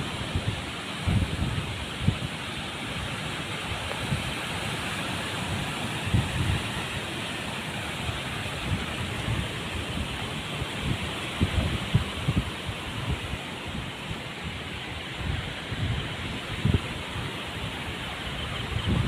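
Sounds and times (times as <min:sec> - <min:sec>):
heavy rain: 0:00.0 - 0:19.0
wind: 0:00.0 - 0:19.0
wind gusts buffeting microphone: 0:00.0 - 0:19.0.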